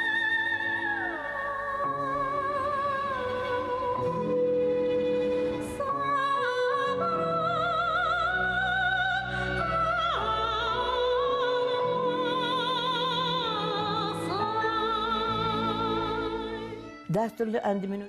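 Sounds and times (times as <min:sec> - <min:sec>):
soprano singing operatic: 0:00.0 - 0:18.0.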